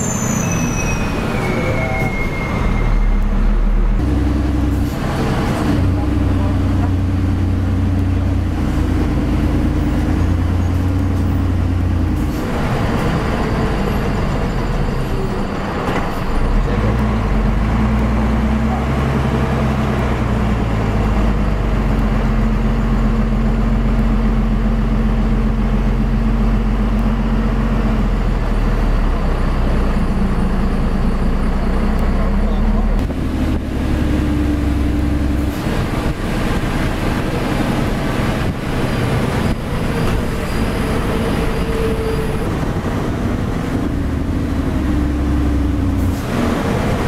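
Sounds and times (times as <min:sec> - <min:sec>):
truck diesel engine running: 0:01.1 - 0:47.0.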